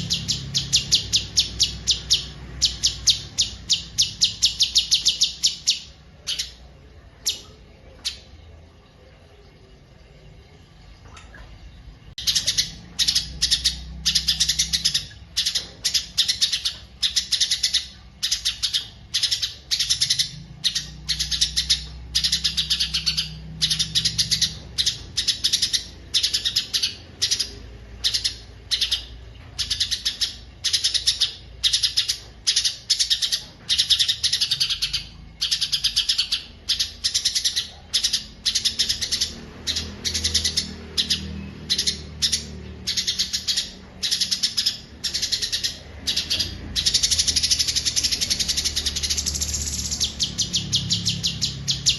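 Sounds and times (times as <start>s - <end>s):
songbird chirping and trilling: 0.0s - 10.2s, 12.1s - 51.9s.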